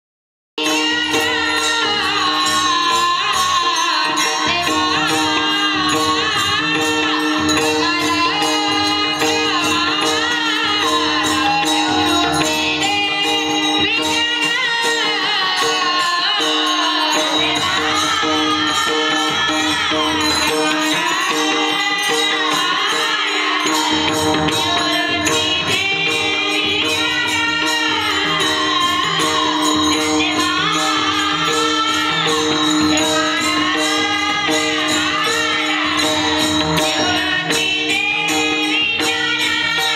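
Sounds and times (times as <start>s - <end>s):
metallic hand percussion: 0.6s - 39.9s
person singing devotional song: 0.6s - 39.9s.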